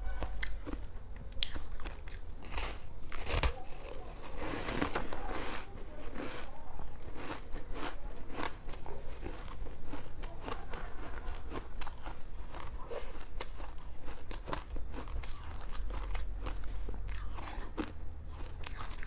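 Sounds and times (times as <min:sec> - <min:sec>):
person crunching ice: 0:01.4 - 0:19.0.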